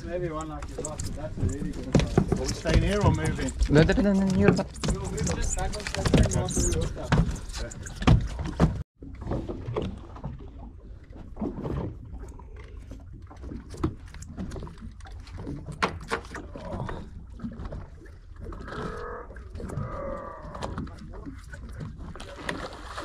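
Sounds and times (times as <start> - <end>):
water noise: 0.0 - 23.0.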